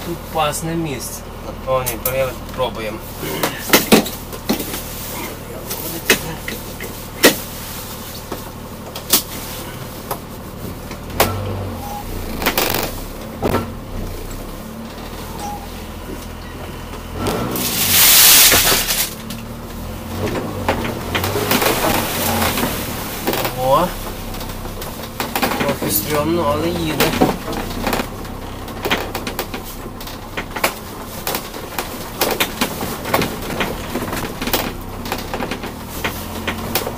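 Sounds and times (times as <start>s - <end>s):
low engine drone: 0.0s - 36.9s
knocks and rattles of van body: 1.4s - 36.9s.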